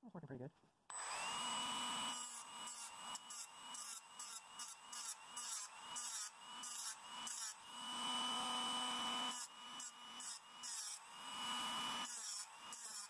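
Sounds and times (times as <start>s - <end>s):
cutoff wheel grinding metal: 0.9s - 13.0s
rotary tool whining: 0.9s - 13.0s.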